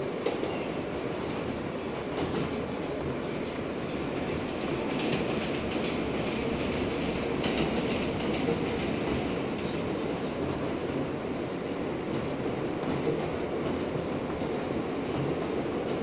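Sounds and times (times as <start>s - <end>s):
train passing alongside: 0.0s - 16.0s
train wheels rumbling on rail: 0.0s - 16.0s.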